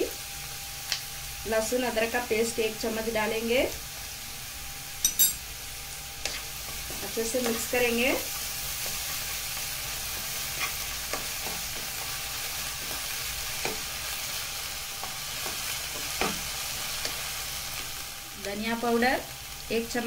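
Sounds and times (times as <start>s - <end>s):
onions sizzling in hot oil: 0.0s - 20.0s.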